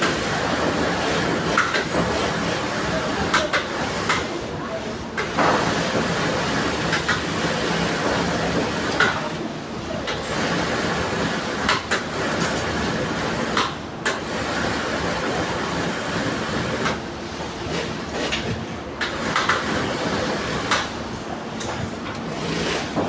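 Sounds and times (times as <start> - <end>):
workshop machinery hum: 0.0 - 23.0.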